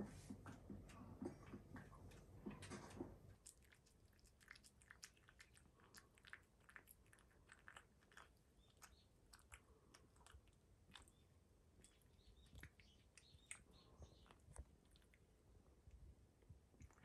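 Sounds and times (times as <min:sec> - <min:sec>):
cat chewing and licking: 0:01.2 - 0:17.0.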